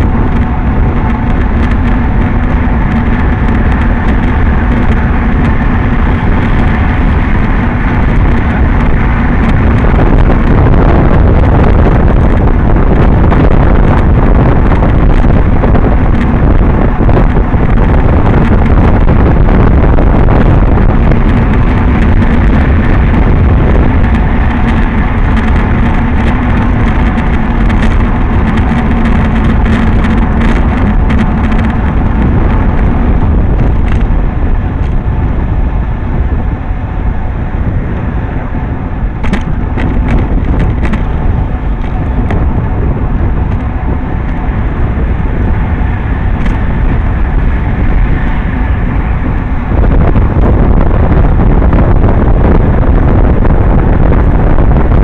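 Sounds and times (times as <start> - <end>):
car passing: 0.0 - 55.0
tyre and road rumble: 0.0 - 55.0
wind buffeting microphone: 0.0 - 55.0.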